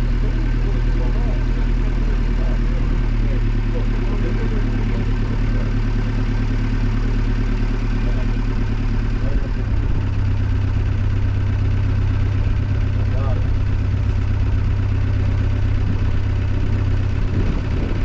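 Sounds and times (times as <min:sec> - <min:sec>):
boat engine running at low revs: 0:00.0 - 0:18.0.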